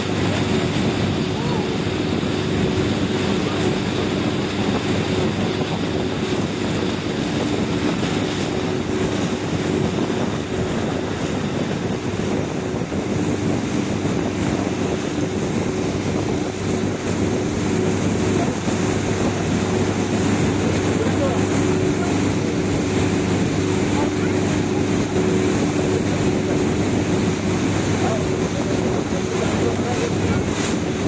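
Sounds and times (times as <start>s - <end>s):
boat engine drone: 0.0s - 31.0s
water rushing in wake: 0.0s - 31.0s.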